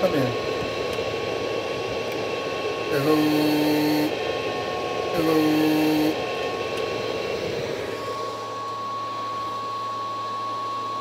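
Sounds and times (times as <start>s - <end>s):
amplifier humming under load: 0.0s - 11.0s
cooling fan whirring: 0.0s - 11.0s.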